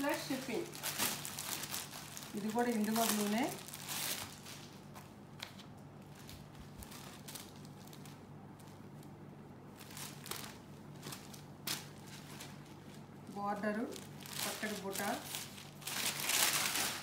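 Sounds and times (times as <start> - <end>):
fabric and plastic rustling: 0.0 - 17.0.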